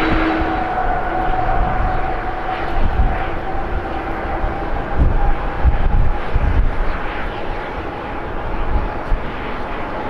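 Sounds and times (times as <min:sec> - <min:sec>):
low rumbles: 0:00.0 - 0:09.8
jet engines whining and roaring: 0:00.0 - 0:10.0.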